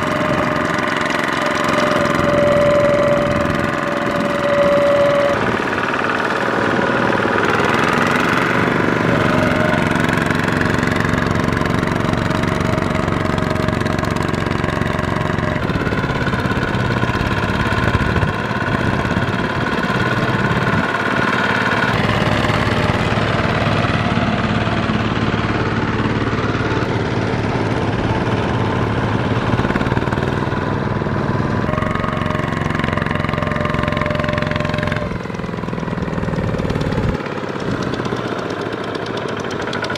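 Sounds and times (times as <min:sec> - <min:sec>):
diesel engine running under load: 0:00.0 - 0:39.9
wheels churning through mud: 0:00.0 - 0:39.9.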